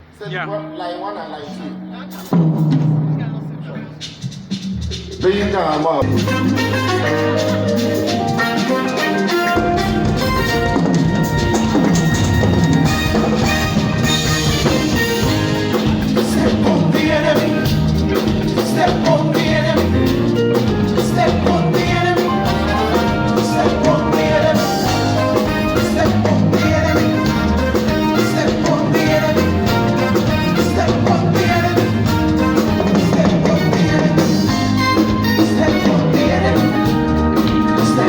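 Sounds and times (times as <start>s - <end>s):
drum kit beat: 2.1s - 38.0s
bass line: 4.7s - 38.0s.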